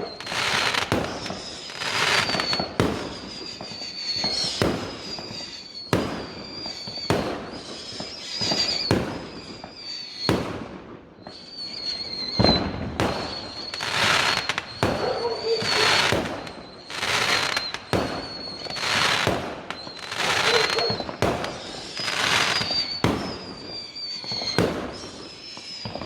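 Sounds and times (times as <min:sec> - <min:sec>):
high wavering whistle: 0:00.0 - 0:10.4, 0:11.2 - 0:26.0
fireworks bangs: 0:00.0 - 0:26.0
fireworks crackling: 0:00.0 - 0:26.0.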